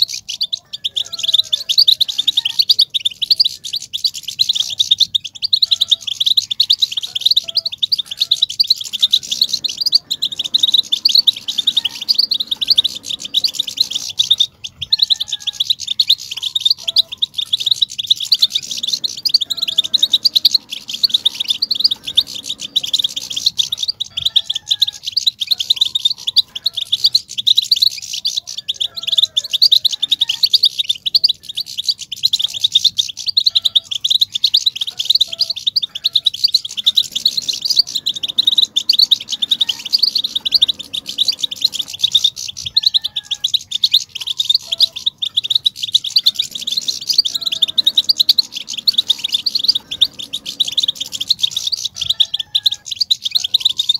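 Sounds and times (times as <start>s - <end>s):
finches twittering: 0.0s - 53.9s.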